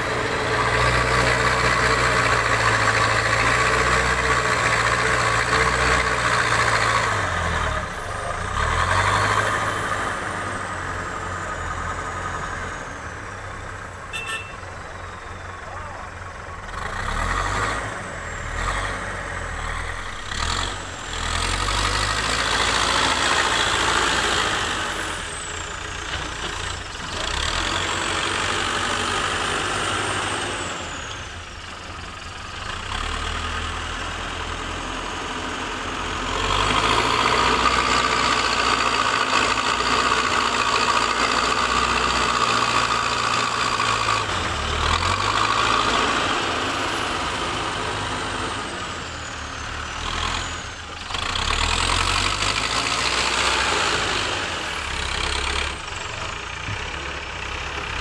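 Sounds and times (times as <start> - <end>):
backhoe diesel engine whining: 0.0 - 58.0.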